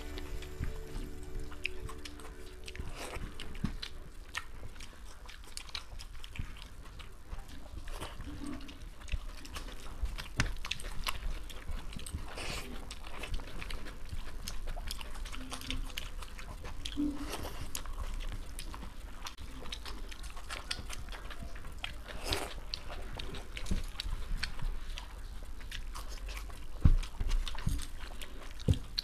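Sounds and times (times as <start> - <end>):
people chewing and lip-smacking: 0.0 - 29.0.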